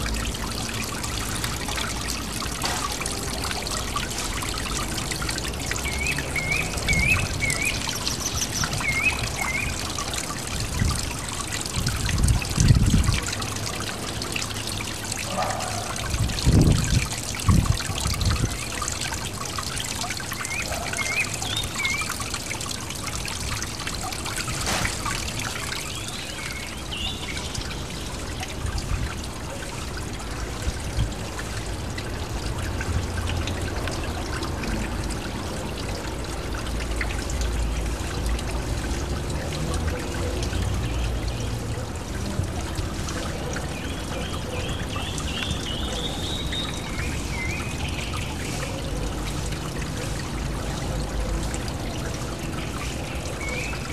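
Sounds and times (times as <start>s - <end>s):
water pouring into pond: 0.0s - 53.9s.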